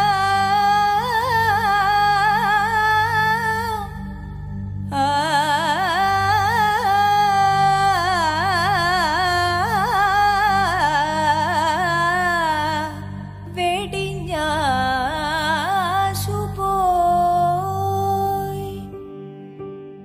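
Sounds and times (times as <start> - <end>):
person singing ornamented melody: 0.0 - 19.3.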